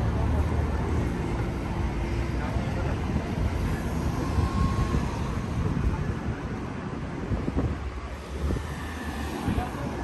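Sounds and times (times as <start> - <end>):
city street rumble: 0.0 - 10.0.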